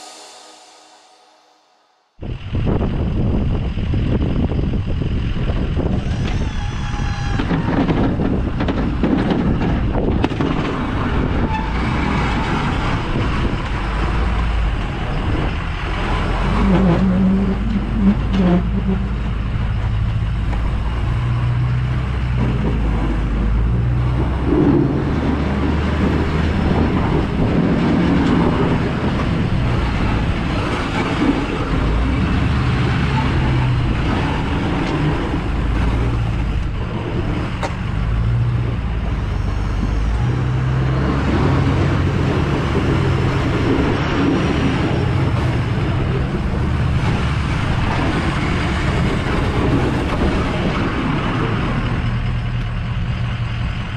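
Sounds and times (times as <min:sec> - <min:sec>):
diesel truck engine under load: 0:02.2 - 0:53.9
plow blade pushing snow: 0:03.4 - 0:53.9.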